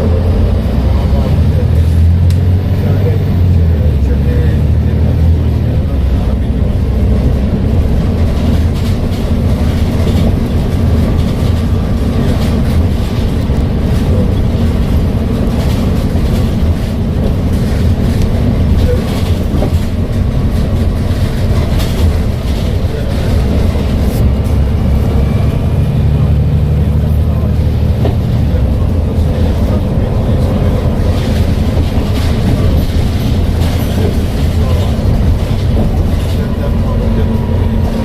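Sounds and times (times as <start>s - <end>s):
bus diesel engine droning: 0.0s - 38.0s.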